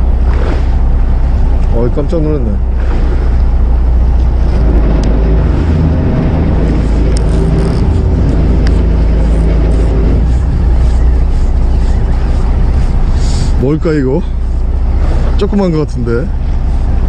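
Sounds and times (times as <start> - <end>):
boat engine rumbling: 0.0 - 17.0
wind on microphone: 0.0 - 17.0.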